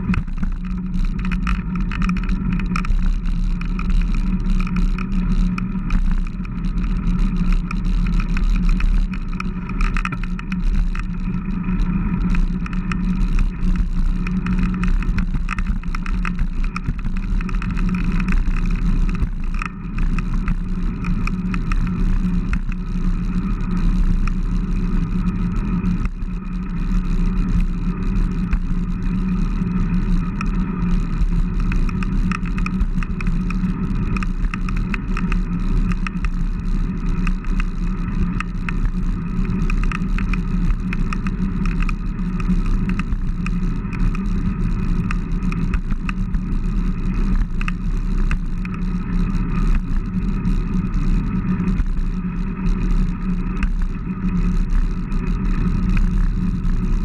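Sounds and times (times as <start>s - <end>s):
tyres rolling on asphalt: 0.0s - 57.0s.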